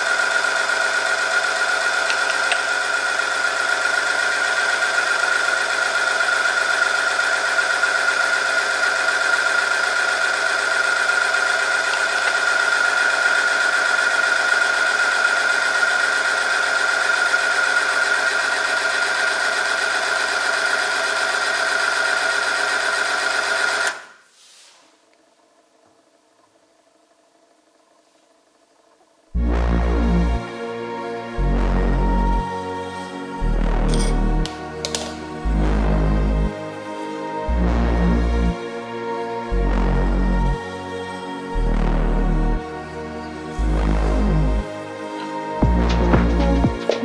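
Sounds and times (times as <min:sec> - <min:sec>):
friction test machine whining: 0:00.0 - 0:24.2, 0:29.4 - 0:47.0.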